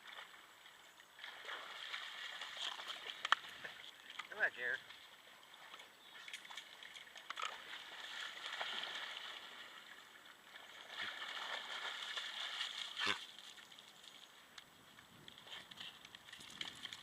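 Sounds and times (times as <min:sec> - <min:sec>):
water sloshing and gurgling: 0:00.0 - 0:14.4.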